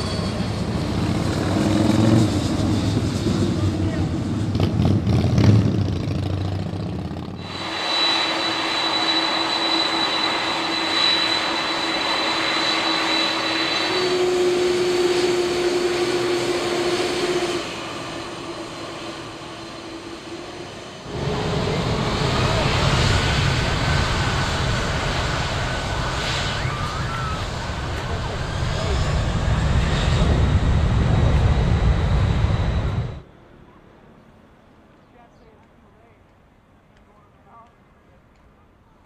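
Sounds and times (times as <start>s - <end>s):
turbofan engine whine: 0.0s - 34.8s
jet engines rumbling: 0.0s - 35.0s.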